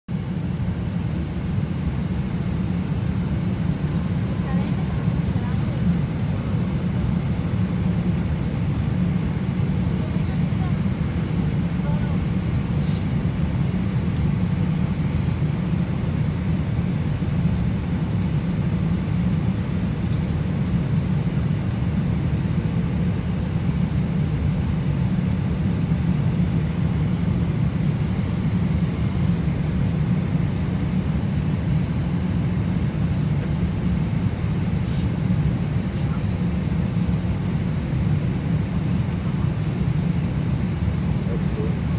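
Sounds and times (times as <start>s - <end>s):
airplane cabin rumble: 0.1s - 41.9s.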